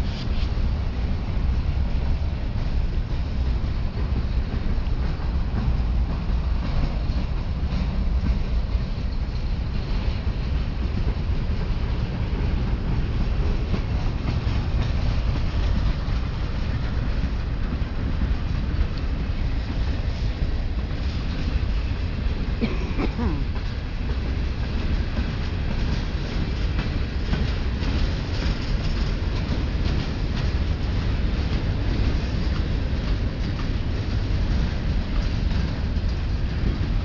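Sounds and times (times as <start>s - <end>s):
train rumbling by: 0.0s - 37.0s.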